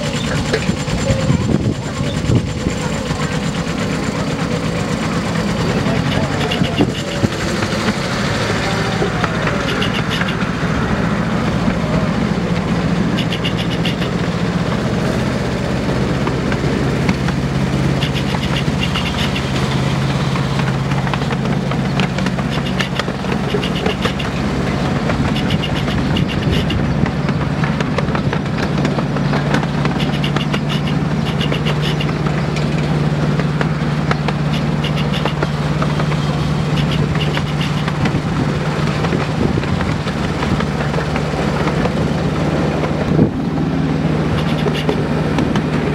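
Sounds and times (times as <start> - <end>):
locomotive engine humming: 0.0 - 45.9
wheels clicking over track: 0.0 - 45.9.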